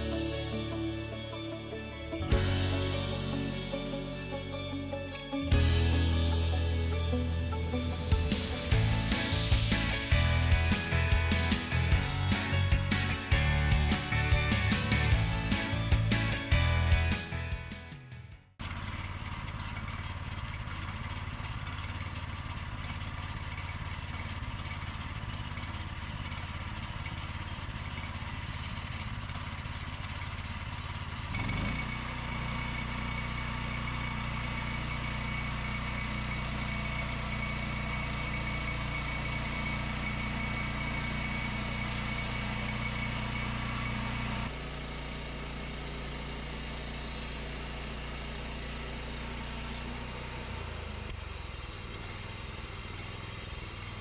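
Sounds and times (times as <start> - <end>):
small gasoline engine running: 0.0 - 17.8, 18.6 - 54.0.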